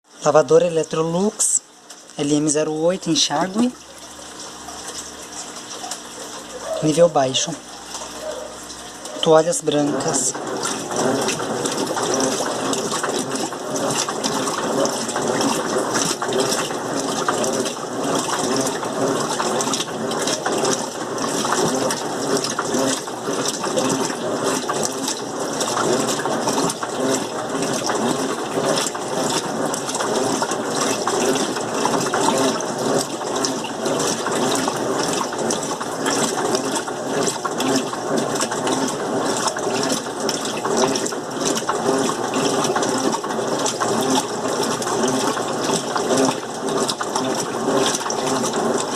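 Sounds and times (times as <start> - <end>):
washing machine running: 0.0 - 48.9
water rushing in washing machine: 0.0 - 48.9.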